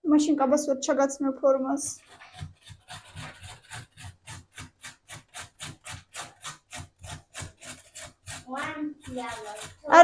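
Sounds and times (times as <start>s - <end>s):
food grated on hand grater: 2.0s - 10.0s.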